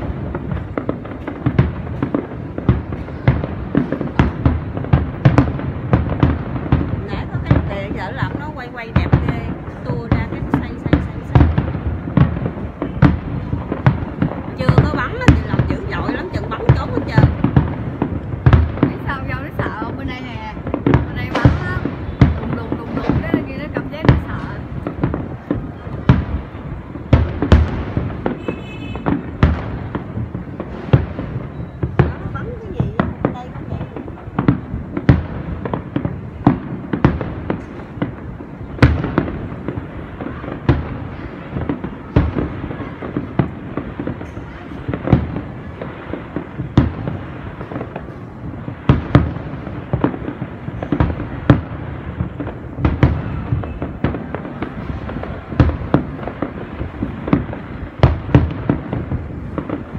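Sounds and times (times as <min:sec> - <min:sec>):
firework booms and bangs: 0:00.0 - 0:59.9
firework crackling: 0:00.0 - 0:59.9.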